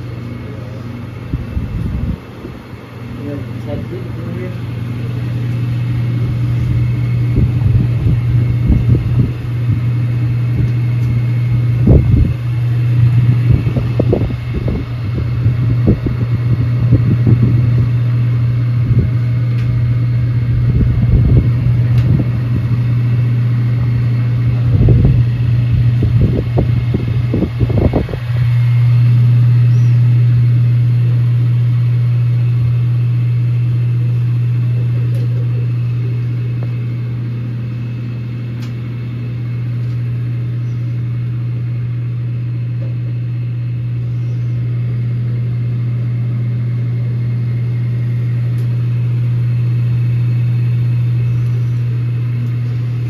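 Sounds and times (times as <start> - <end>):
low thumps and rumbling: 0.0 - 44.1
low mechanical hum: 0.0 - 53.0.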